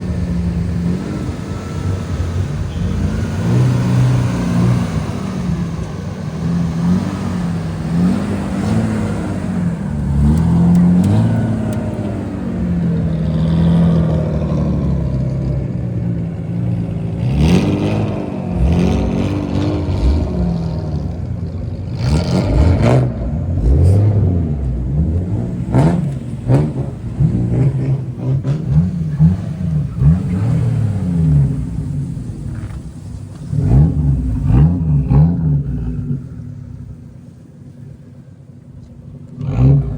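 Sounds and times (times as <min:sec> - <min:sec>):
car exhaust revving: 0:00.0 - 0:39.9.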